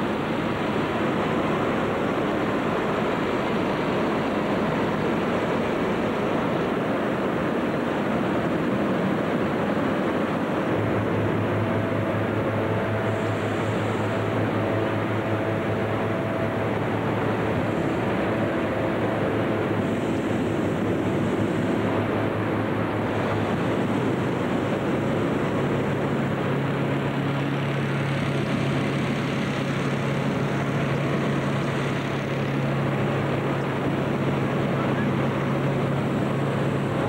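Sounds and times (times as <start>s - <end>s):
inflator fans rushing air: 0.0s - 37.0s
low engine hum: 0.0s - 37.0s.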